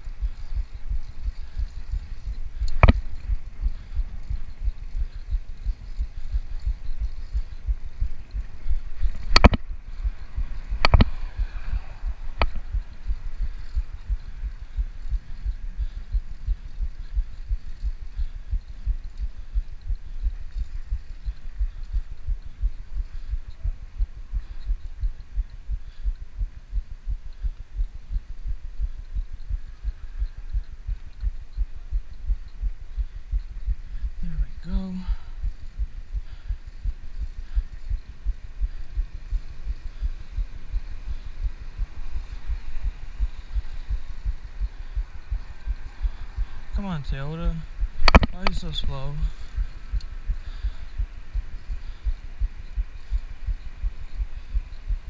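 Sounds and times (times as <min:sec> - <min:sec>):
faint hiss: 0:00.0 - 0:55.0
wind buffeting microphone: 0:00.0 - 0:55.0.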